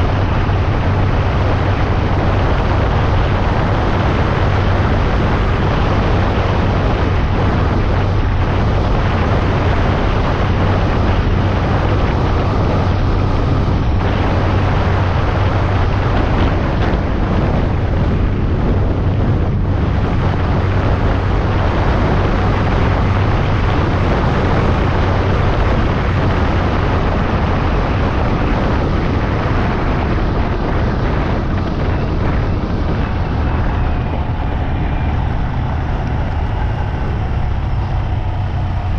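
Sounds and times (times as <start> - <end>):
vehicle engine drone: 0.0 - 38.9
wind buffeting microphone: 0.0 - 38.9.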